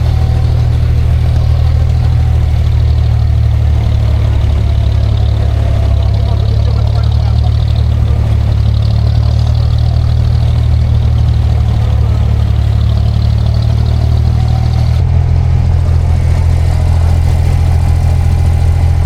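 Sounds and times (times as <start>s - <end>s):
motor engine running: 0.0s - 19.0s.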